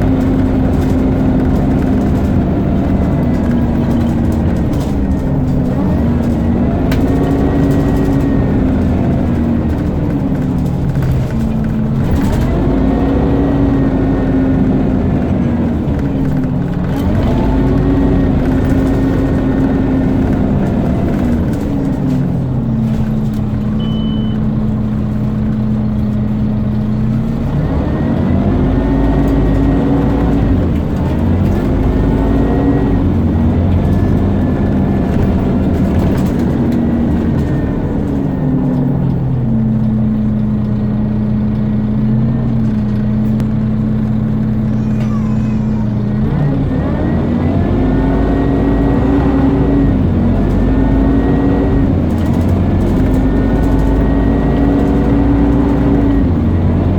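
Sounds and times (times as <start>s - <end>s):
bus diesel engine revving: 0.0s - 56.9s.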